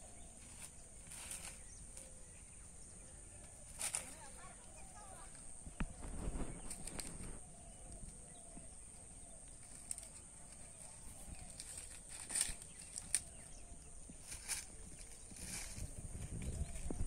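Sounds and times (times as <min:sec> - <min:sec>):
dry leaves rustling and crackling: 0:00.3 - 0:02.2, 0:03.5 - 0:08.2, 0:09.4 - 0:17.0.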